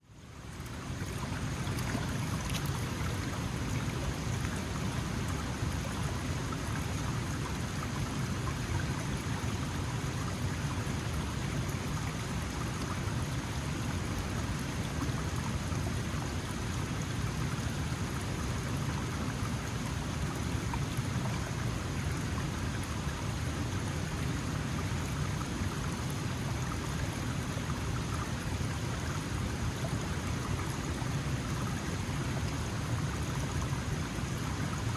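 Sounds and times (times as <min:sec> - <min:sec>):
mountain stream flowing over stones: 0:00.0 - 0:34.9.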